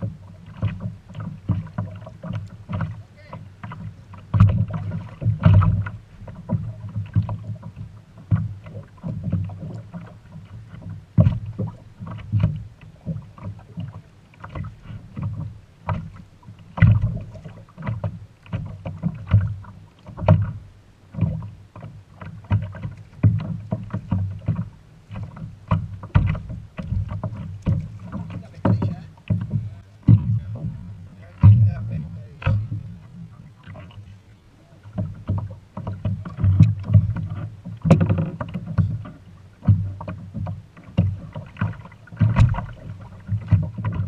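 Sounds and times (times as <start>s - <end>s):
waves lapping against kayak hull: 0.0s - 44.0s
knocks on kayak hull: 0.5s - 9.8s, 10.7s - 13.7s, 14.5s - 20.6s, 22.4s - 32.9s, 34.9s - 44.0s.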